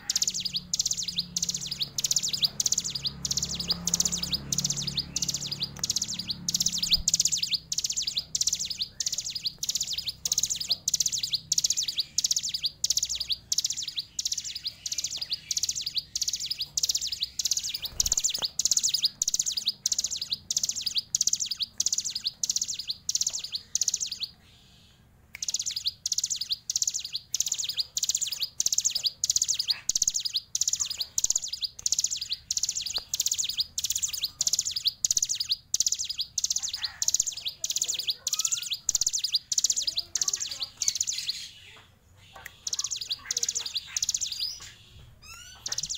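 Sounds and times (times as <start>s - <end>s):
bird calling sharp high notes: 0.0s - 24.4s, 25.4s - 41.6s, 42.5s - 45.9s.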